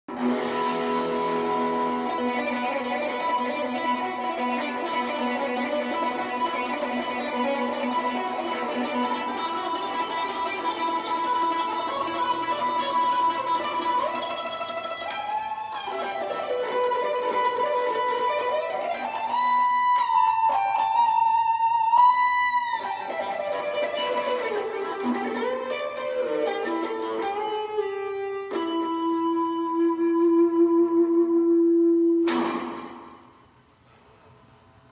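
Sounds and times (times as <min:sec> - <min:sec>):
electric guitar solo: 0:00.1 - 0:33.6.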